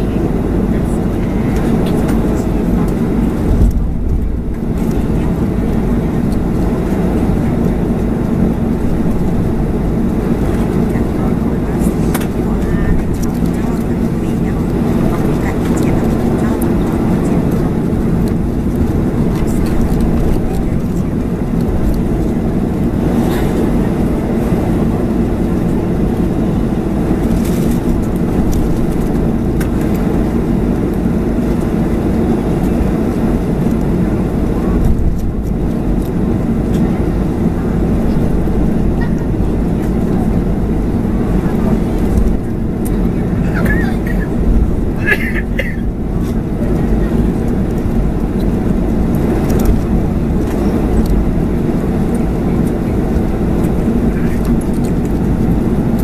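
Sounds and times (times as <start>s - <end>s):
airframe rolling on taxiway: 0.0s - 56.0s
jet engines idling: 0.0s - 56.0s.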